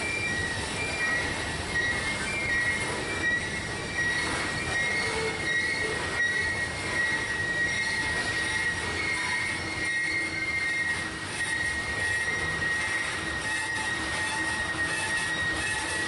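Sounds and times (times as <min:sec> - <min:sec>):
steel wheels squealing: 0:00.0 - 0:16.0.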